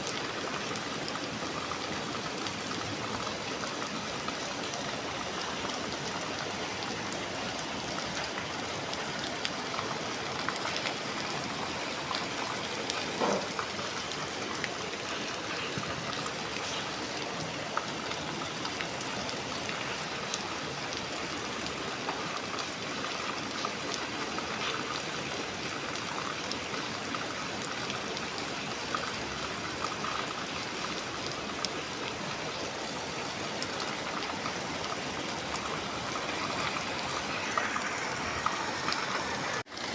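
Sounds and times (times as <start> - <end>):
drips and patters: 0.0 - 39.9
steady rain: 0.0 - 39.9.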